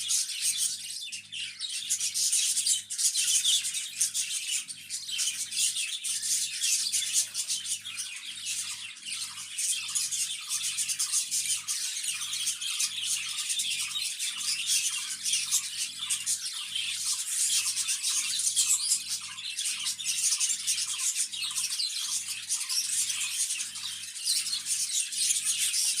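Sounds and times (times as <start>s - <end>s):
cage birds chirping: 0.0s - 26.0s.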